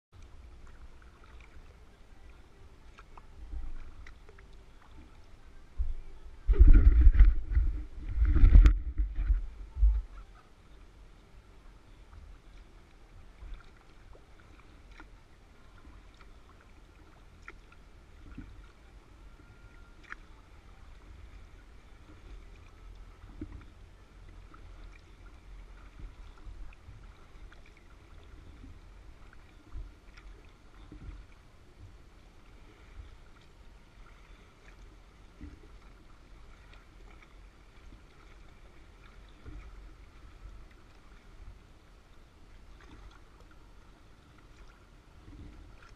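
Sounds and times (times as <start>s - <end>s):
steady low rumble: 0.1s - 45.9s
paddle splashes and drips: 0.2s - 45.9s
water lapping at hull: 0.2s - 45.9s.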